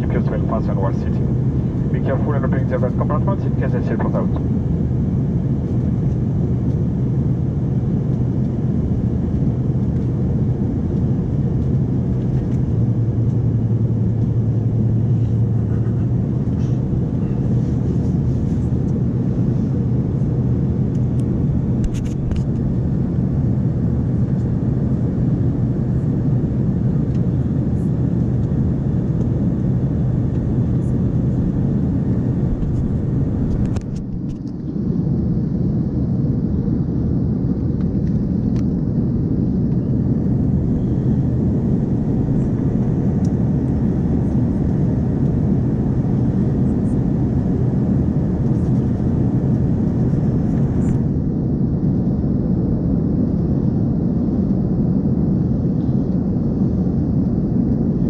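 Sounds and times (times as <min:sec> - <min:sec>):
jet cabin drone: 0:00.0 - 0:58.0.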